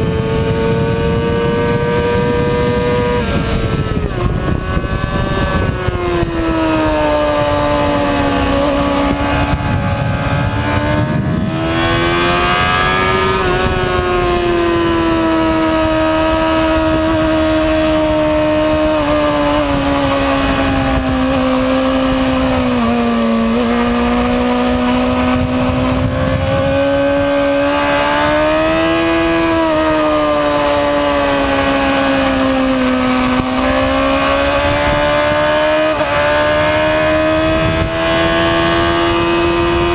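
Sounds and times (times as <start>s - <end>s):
motorcycle engine at high revs: 0.0s - 39.9s
wind rush: 0.0s - 39.9s.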